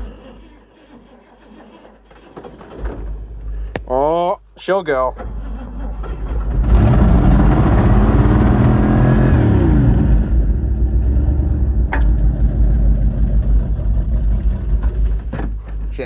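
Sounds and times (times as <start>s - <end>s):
truck engine starting and revving: 0.0s - 3.6s, 5.0s - 16.0s.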